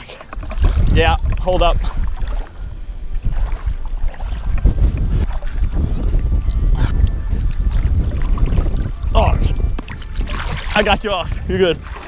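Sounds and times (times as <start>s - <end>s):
water sloshing around wading legs: 0.0s - 12.0s
wind buffeting microphone: 0.0s - 12.0s.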